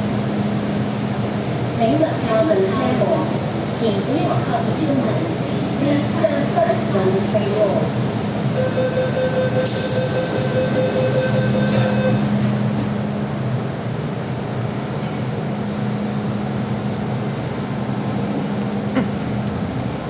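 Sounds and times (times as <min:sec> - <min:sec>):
train drive humming: 0:00.0 - 0:20.0.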